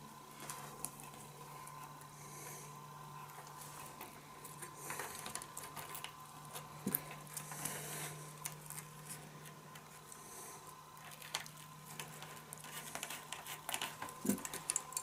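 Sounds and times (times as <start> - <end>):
faint hum: 0.0 - 15.0
wires rustling and clicking: 0.3 - 2.1, 3.1 - 15.0.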